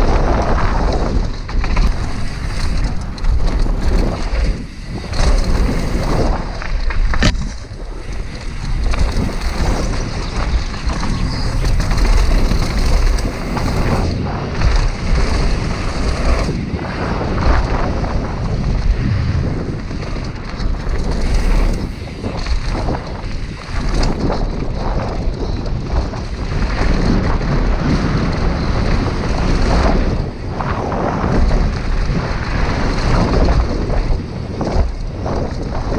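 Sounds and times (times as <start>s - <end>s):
bike clattering: 0.0s - 35.5s
tyres rumbling over rough ground: 0.0s - 35.9s
wind buffeting microphone: 0.0s - 35.9s.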